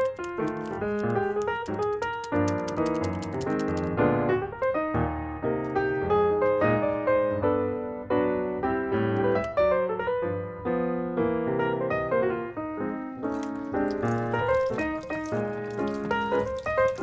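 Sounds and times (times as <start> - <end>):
piano melody with chords: 0.0 - 17.0.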